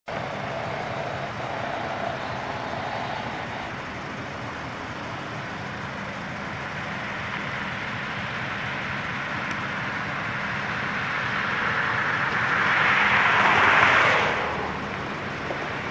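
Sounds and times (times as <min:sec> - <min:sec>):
distant diesel locomotive: 0:00.0 - 0:15.9
road traffic: 0:00.0 - 0:15.9.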